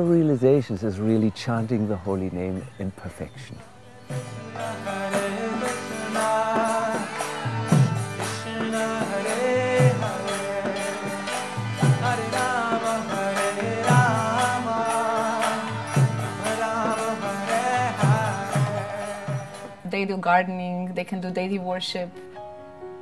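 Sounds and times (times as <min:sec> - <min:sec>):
man singing a devotional chant: 0:00.0 - 0:19.8
jingling percussion: 0:00.0 - 0:20.2
harmonium drone: 0:00.1 - 0:20.5.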